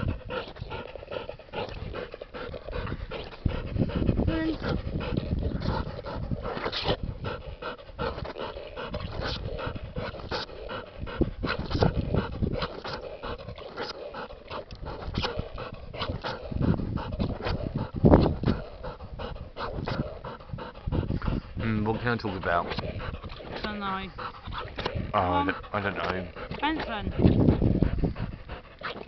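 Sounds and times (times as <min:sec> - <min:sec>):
dog panting: 0:00.0 - 0:29.0.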